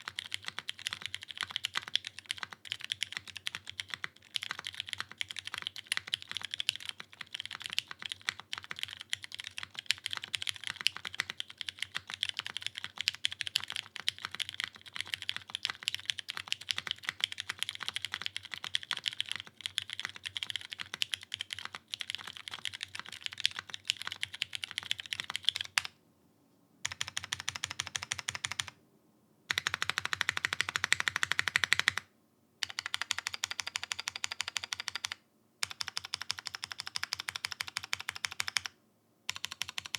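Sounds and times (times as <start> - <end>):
mechanical keyboard typing: 0.0 - 25.9, 26.8 - 28.8, 29.5 - 39.9.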